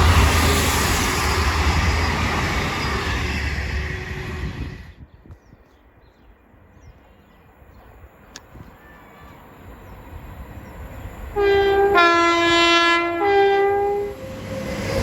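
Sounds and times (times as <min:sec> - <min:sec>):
train passing at speed: 0:00.0 - 0:05.1, 0:07.4 - 0:15.0.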